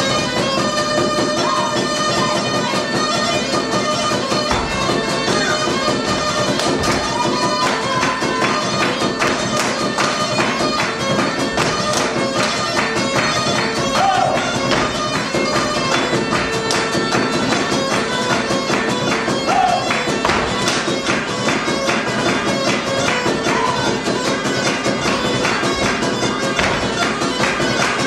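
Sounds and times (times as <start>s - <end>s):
percussive beat: 0.0s - 28.0s.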